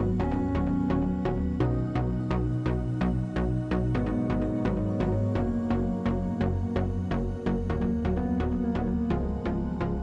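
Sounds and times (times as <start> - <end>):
music with low notes and beat: 0.0 - 10.0.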